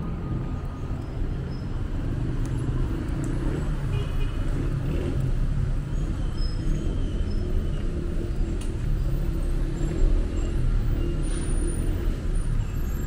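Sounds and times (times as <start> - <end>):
cars driving past: 0.0 - 13.0
low rumble of engines and tyres: 0.0 - 13.0.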